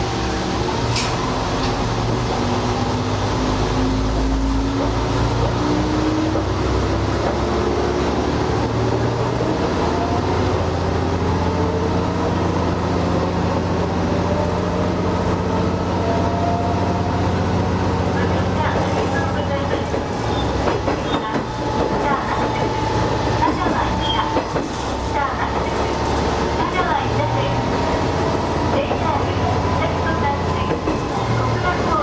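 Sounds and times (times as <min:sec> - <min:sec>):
diesel railcar engine accelerating: 0:00.0 - 0:32.0.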